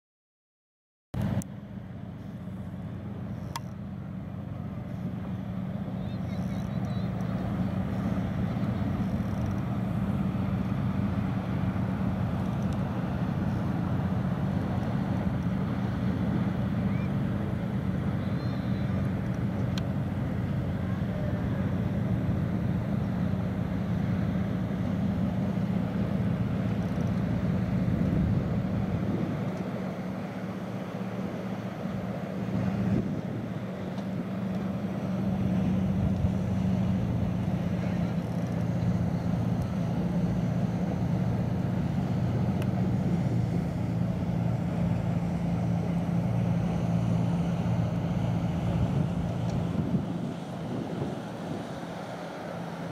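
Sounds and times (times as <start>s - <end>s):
boat engine droning: 1.2s - 52.9s.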